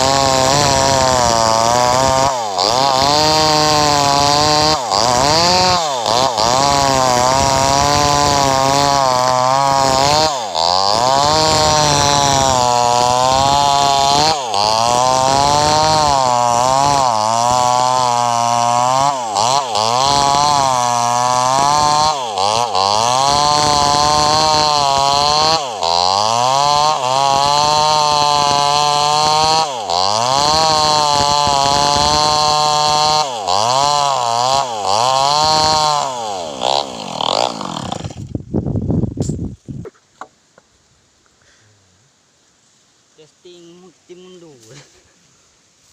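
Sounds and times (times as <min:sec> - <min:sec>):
chainsaw ripping a log: 0:00.0 - 0:39.6.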